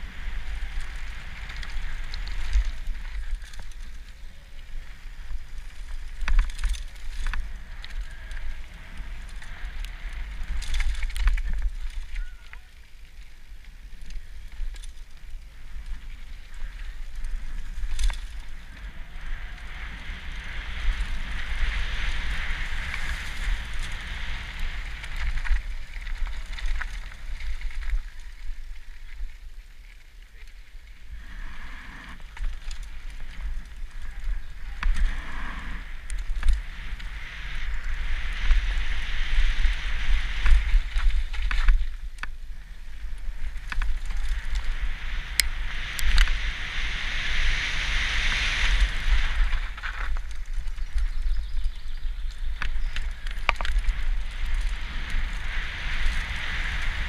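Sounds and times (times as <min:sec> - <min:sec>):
bike rattling: 0:00.0 - 0:57.0
wind rumble on microphone: 0:00.0 - 0:57.0.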